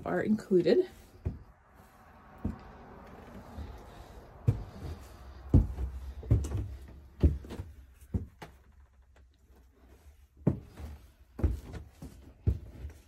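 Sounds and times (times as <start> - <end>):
footsteps on wooden stairs: 0.9 - 13.0.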